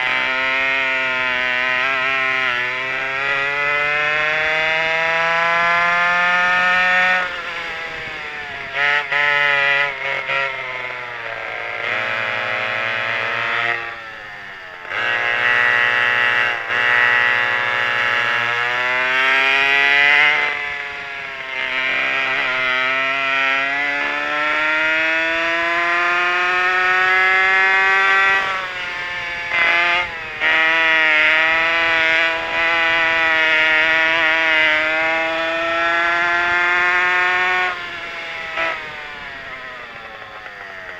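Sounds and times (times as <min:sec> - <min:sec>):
two-stroke engines screaming: 0:00.0 - 0:40.9.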